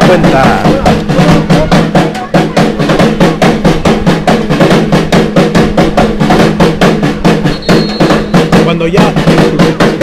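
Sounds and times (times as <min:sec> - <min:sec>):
samba drum group playing: 0:00.0 - 0:10.0.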